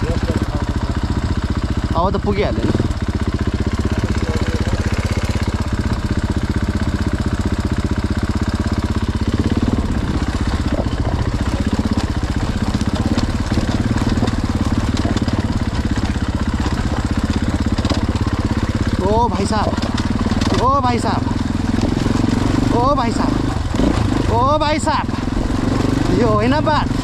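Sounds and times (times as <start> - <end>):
dirt bike engine idling: 0.0 - 27.0.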